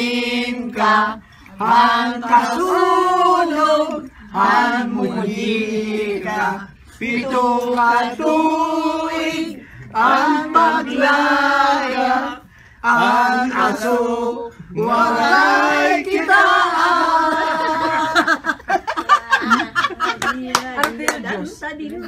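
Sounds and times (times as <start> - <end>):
group singing unaccompanied: 0.0 - 21.4.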